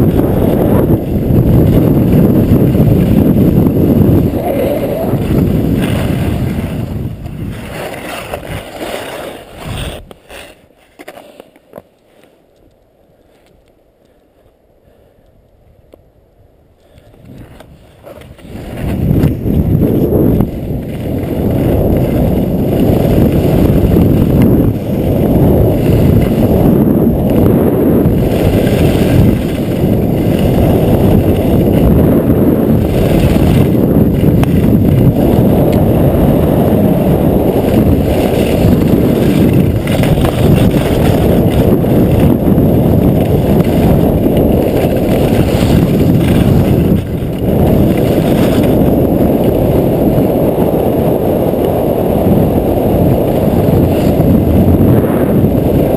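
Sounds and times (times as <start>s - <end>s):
wind buffeting microphone: 0.0s - 10.2s, 15.4s - 55.9s
skis scraping over snow: 0.0s - 12.6s, 16.8s - 55.9s.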